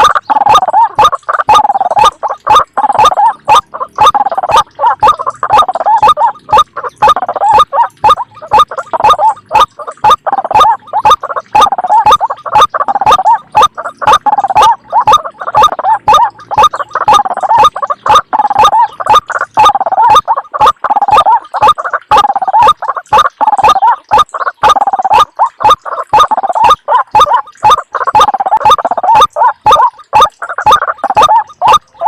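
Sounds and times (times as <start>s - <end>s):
recorded bird calls: 0.0s - 32.0s.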